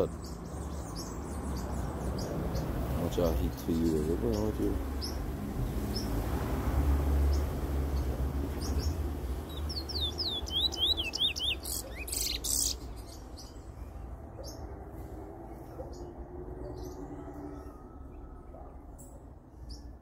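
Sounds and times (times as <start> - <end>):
bird singing: 0.0 - 6.2, 7.1 - 20.0.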